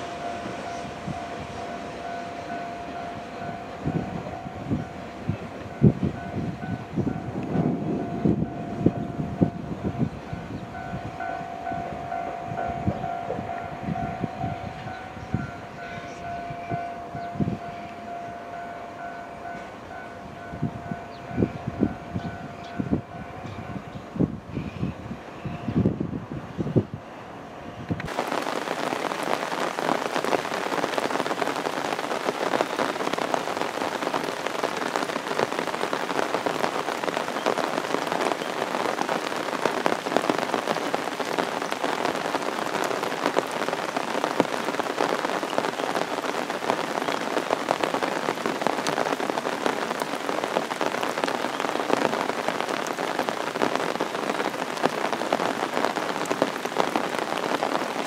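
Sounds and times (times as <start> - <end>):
torrential rain pouring: 0.0 - 26.1, 28.0 - 58.0.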